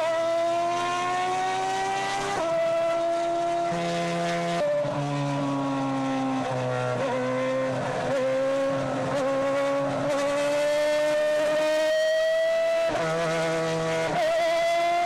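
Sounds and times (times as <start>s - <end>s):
racing car engine at high revs: 0.0s - 15.0s.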